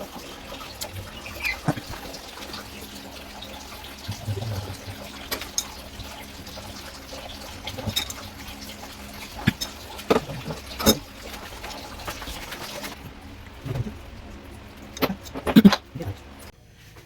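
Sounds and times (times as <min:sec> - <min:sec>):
water running from a tap: 0:00.0 - 0:16.5.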